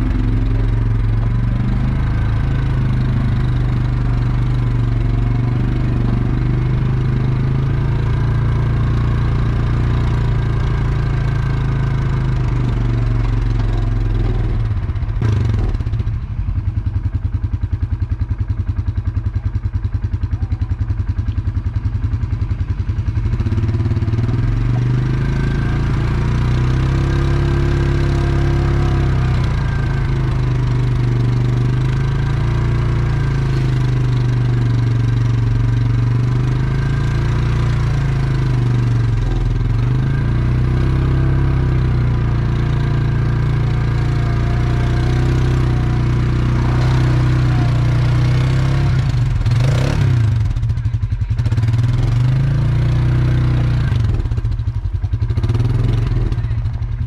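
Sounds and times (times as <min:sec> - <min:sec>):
atv engine: 0:00.0 - 0:57.0.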